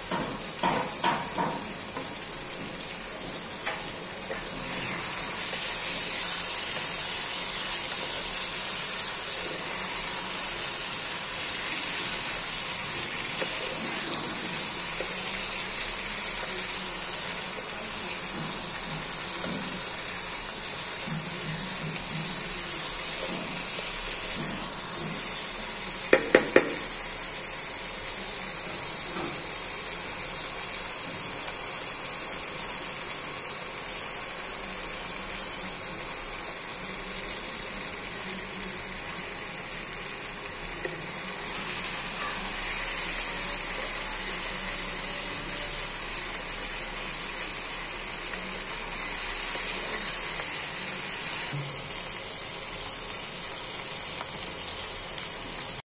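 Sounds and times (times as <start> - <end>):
curry sizzling in a pan: 0.0 - 55.8.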